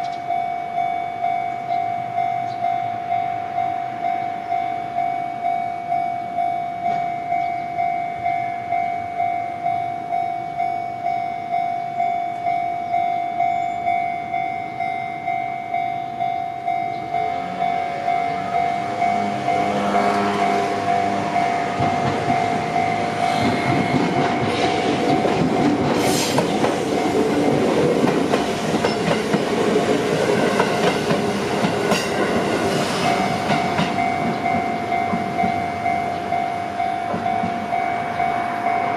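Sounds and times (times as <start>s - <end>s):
level-crossing warning bell: 0.0s - 38.9s
train rumble and wheel clatter: 0.0s - 38.9s.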